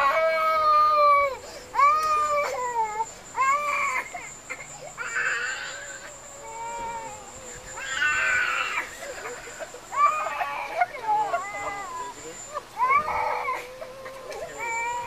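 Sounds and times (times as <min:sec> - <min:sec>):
toddler crying: 0:00.0 - 0:15.0.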